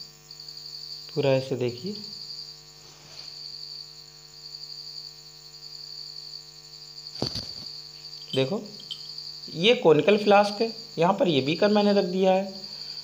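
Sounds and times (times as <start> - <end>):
insects chirring: 0.0 - 13.0
low electrical hum: 0.0 - 13.0.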